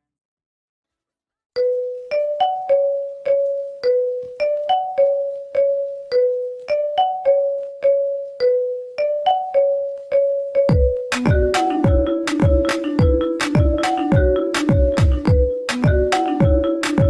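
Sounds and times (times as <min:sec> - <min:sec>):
mobile ringtone tune: 0:01.6 - 0:17.0.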